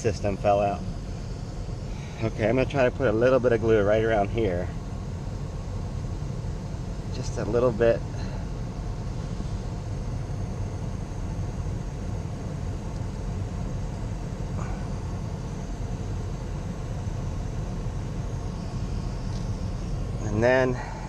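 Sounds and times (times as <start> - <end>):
air-conditioning blower: 0.0 - 21.0
truck engine rumble: 0.0 - 21.0.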